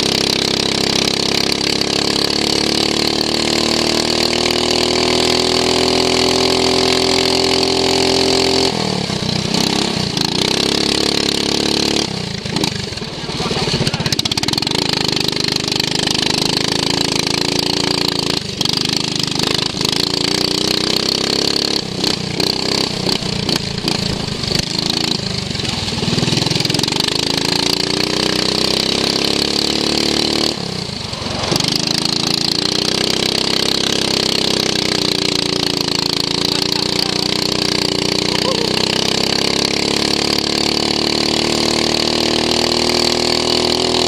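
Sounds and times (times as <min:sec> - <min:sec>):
lawn mower engine revving: 0:00.0 - 0:44.0.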